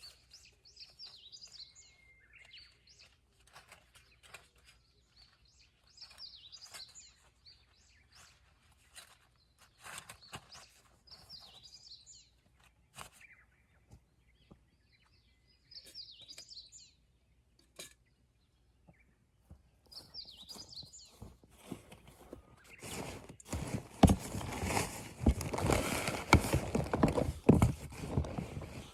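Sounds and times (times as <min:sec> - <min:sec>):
songbird chirping: 0:00.0 - 0:28.9.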